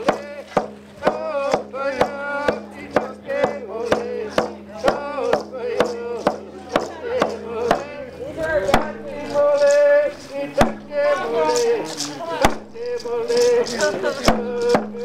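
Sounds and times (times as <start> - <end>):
hand drum beaten with stick: 0.0 - 15.0
person singing: 0.0 - 15.0.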